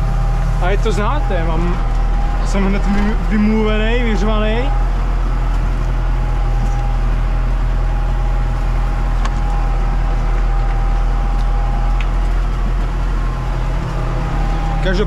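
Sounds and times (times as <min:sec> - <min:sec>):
faint steady whine: 0:00.0 - 0:15.0
tractor diesel engine droning: 0:00.0 - 0:15.0.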